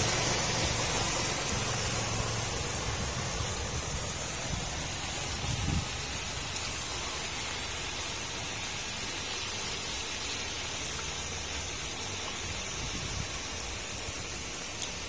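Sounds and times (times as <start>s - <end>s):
rain water pouring into drain: 0.0s - 15.0s.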